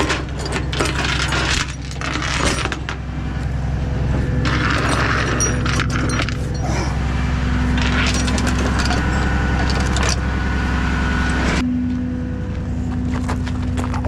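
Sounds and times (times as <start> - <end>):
tow truck engine running: 0.0 - 14.0.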